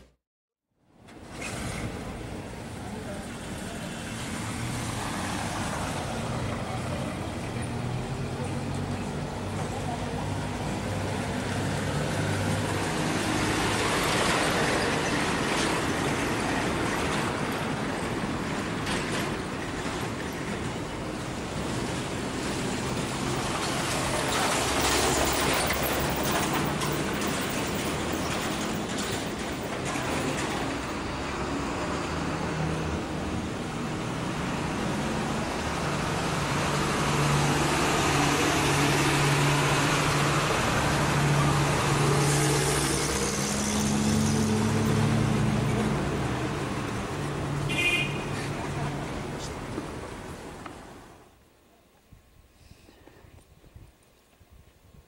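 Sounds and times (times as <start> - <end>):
vehicles passing: 0.9 - 51.6.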